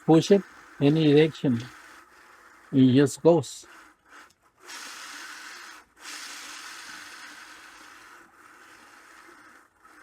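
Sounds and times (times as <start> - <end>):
steel balls rolling hiss: 0.0 - 10.0.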